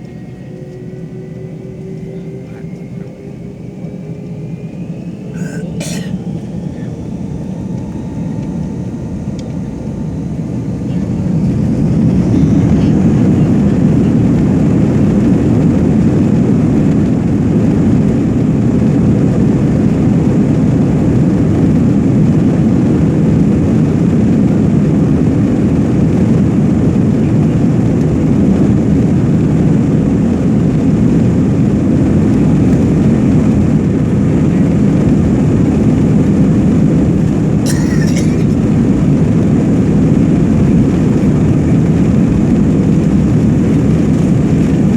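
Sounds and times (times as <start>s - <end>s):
aircraft rumbling: 0.0s - 44.9s
jet engines roaring: 0.0s - 44.9s.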